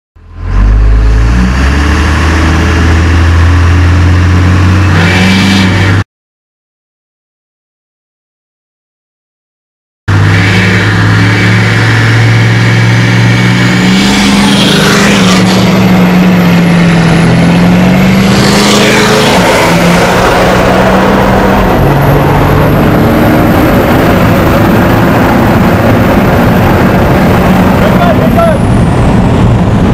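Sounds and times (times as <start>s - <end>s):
diesel engine accelerating: 0.2s - 6.0s, 10.1s - 29.9s.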